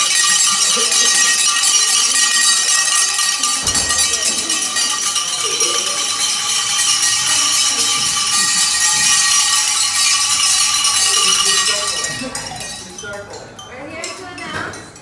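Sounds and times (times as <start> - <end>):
bell ringing: 0.0 - 14.5
faint group voices: 0.0 - 15.0.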